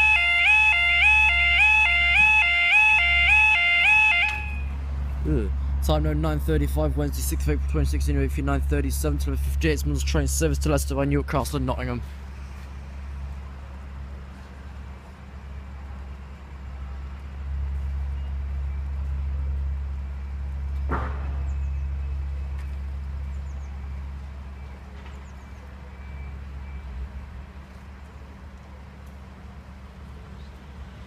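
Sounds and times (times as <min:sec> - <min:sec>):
vehicle engines rumbling: 0:00.0 - 0:31.0.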